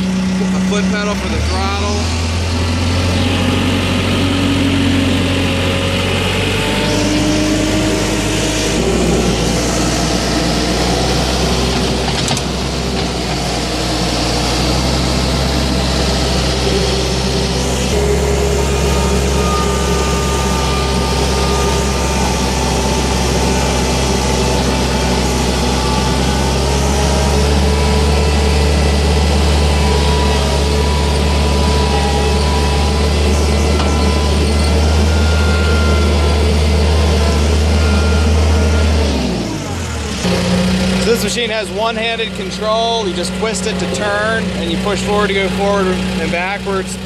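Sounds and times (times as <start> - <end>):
skid steer loader engine running: 0.0 - 47.0.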